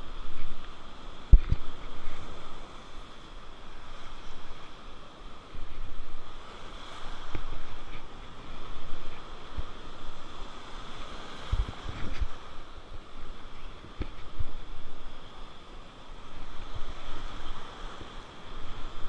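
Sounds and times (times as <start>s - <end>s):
wind buffeting microphone: 0.0s - 15.5s
small waves washing in: 0.0s - 19.0s.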